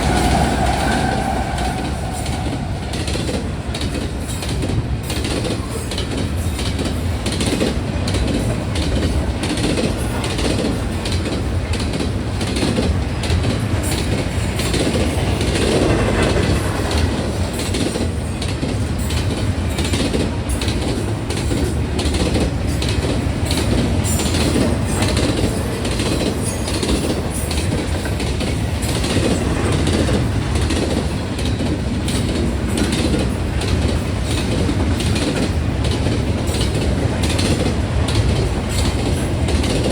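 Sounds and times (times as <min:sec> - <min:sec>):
train wheels rumbling on rail: 0:00.0 - 0:39.9
wheels clacking over rail joints: 0:00.0 - 0:39.9.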